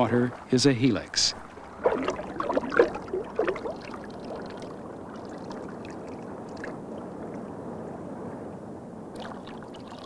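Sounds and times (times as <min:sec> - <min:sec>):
rushing swirling water: 0:00.0 - 0:08.4, 0:09.1 - 0:10.0.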